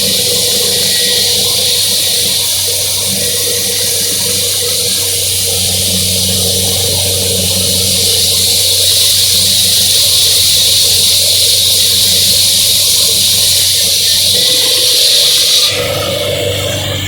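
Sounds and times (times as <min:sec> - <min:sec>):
concrete saw engine under load: 0:00.0 - 0:17.0
saw blade hissing in concrete: 0:00.0 - 0:17.0.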